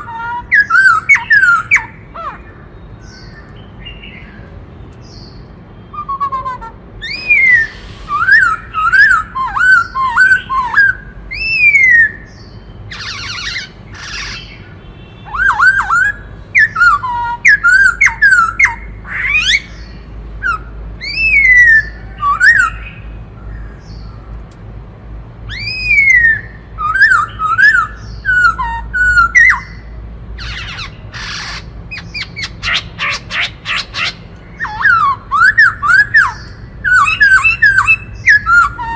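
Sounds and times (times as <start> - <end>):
bird singing whistled phrases: 0.0 - 2.5, 5.8 - 14.6, 15.2 - 23.1, 25.5 - 29.9, 30.5 - 38.9
harsh rasping bird calls: 0.0 - 24.4, 25.3 - 38.9.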